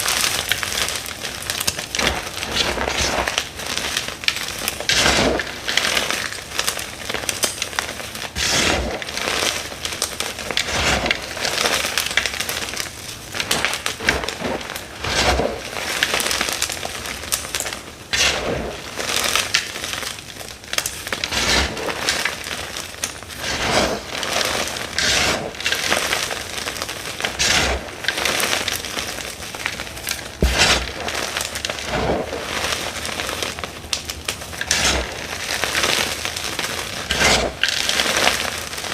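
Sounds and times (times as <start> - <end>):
chalk blocks crunching: 0.0 - 38.9.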